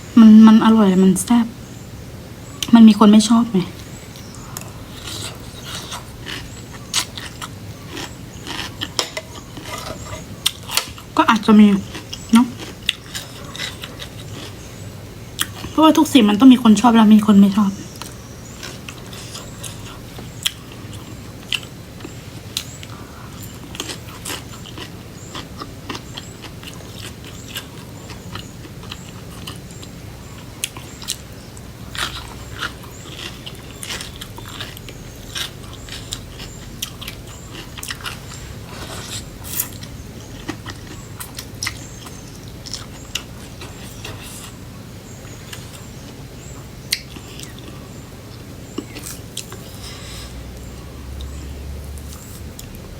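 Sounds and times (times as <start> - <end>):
faint low hum: 0.0 - 52.9
chewing and crunching: 3.7 - 16.1, 17.7 - 52.9.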